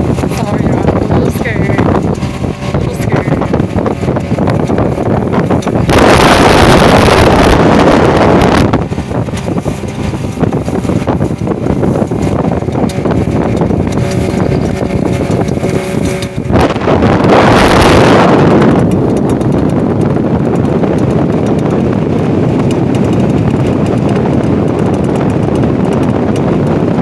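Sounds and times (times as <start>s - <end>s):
boat engine running: 0.0s - 27.0s
wind buffeting microphone: 0.0s - 27.0s.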